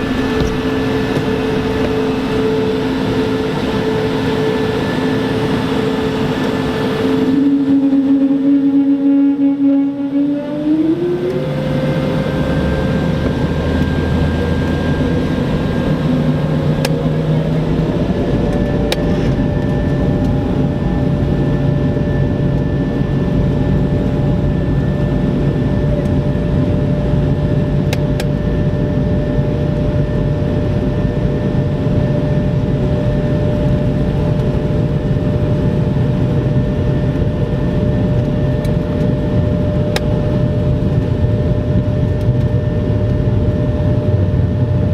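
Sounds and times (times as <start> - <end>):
jet engines rumbling and whining: 0.0 - 44.9.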